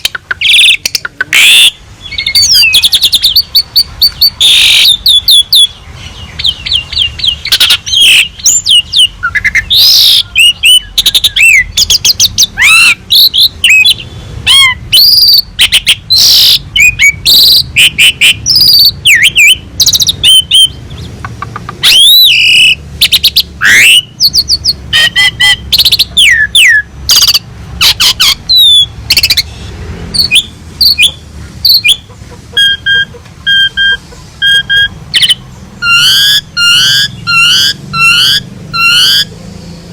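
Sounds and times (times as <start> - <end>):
starling singing whistled song: 0.0 - 21.1, 21.8 - 39.3
sharp bird chattering: 0.0 - 39.4.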